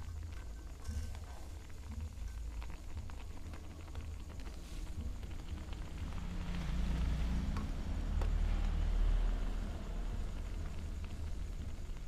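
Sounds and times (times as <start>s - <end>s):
gas burner rumble: 0.0s - 12.0s
noodles sizzling in a pan: 0.0s - 12.0s.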